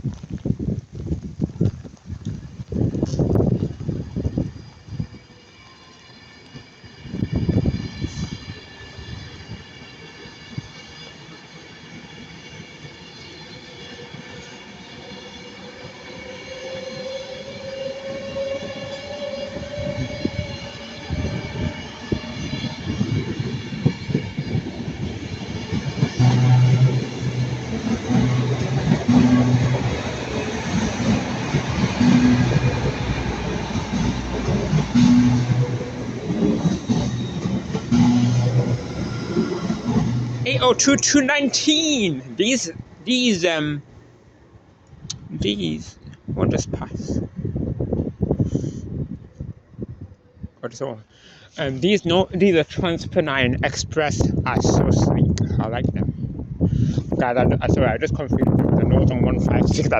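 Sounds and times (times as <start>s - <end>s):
passenger train whine: 1.8s - 59.9s.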